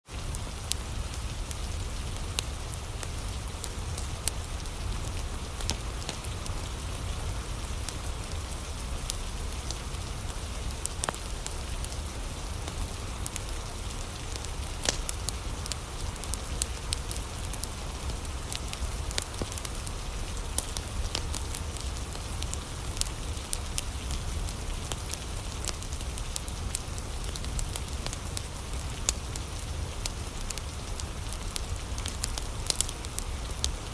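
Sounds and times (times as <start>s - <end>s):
rain hiss: 0.1s - 33.9s
wood fire crackling and popping: 0.1s - 33.9s.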